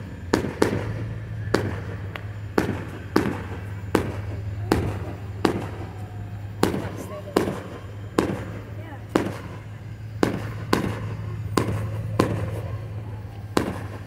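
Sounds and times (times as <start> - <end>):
fireworks bangs with echo: 0.0 - 14.0.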